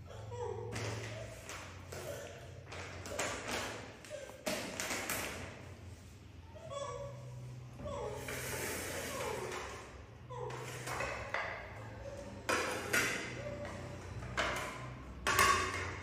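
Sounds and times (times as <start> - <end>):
plastic plates clacking on tiles: 0.6 - 5.7, 8.2 - 16.0.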